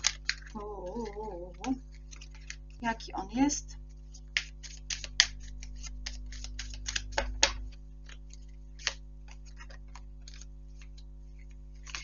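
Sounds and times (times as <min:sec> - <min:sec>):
cards being shuffled: 0:00.0 - 0:02.8, 0:03.9 - 0:12.0.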